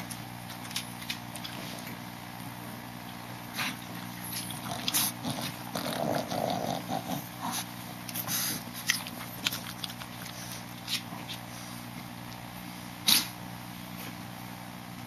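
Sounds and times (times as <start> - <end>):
dogs snuffling and grunting: 0.0 - 14.3.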